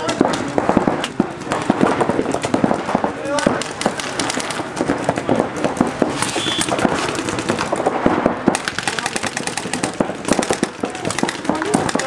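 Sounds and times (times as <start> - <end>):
paintball markers firing: 0.0 - 12.0.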